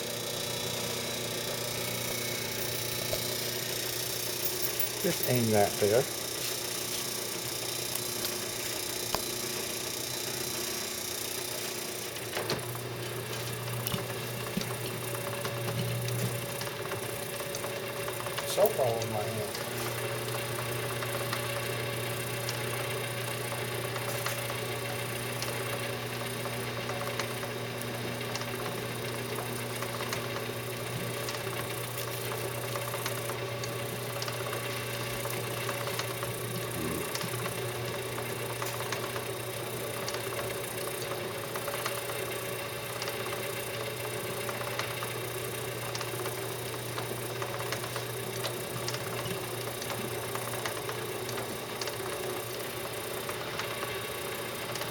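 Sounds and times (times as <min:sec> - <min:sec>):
washing machine motor humming: 0:00.0 - 0:54.9.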